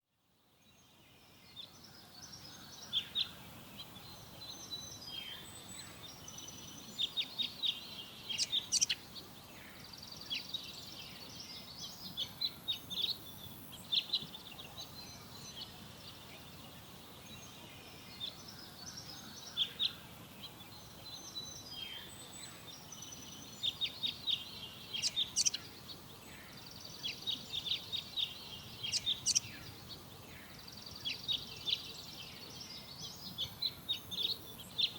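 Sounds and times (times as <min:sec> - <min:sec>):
forest birds singing: 0:00.2 - 0:34.9
steady background hiss: 0:00.2 - 0:34.9.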